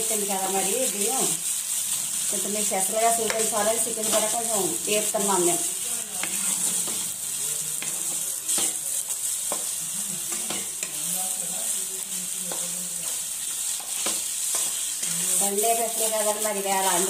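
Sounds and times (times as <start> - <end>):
chicken sizzling in hot oil: 0.0 - 17.0
wooden spatula scraping a wok: 0.1 - 17.0.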